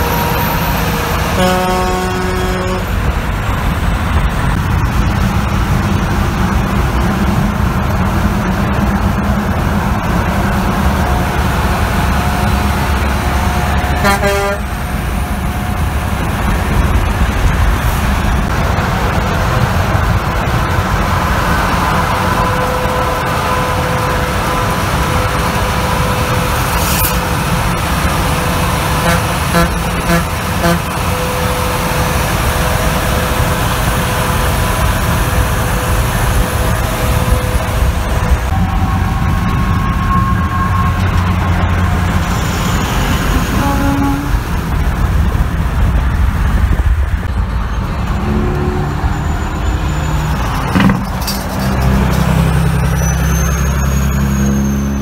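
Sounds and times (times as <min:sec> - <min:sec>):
highway traffic drone: 0:00.0 - 0:55.0.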